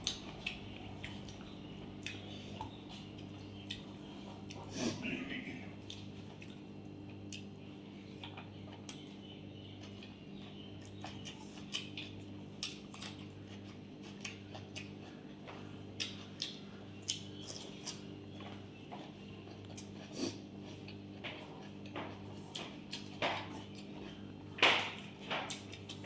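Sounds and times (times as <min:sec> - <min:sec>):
chewing with wet smacks: 0:00.0 - 0:26.0
low electrical hum: 0:00.0 - 0:26.0.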